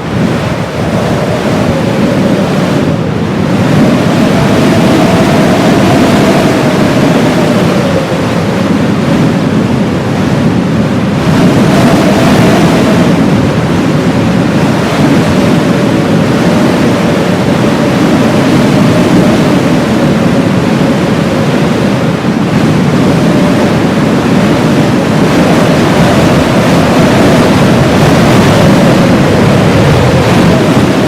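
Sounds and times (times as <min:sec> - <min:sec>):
blizzard wind blowing hard: 0:00.0 - 0:31.0.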